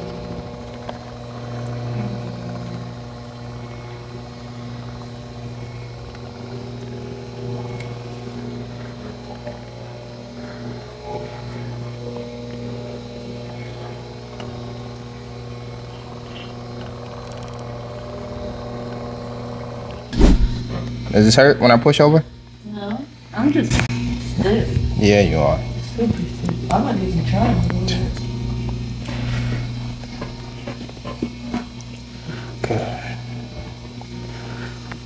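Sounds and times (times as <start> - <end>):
electric motor hum: 0.0 - 35.0.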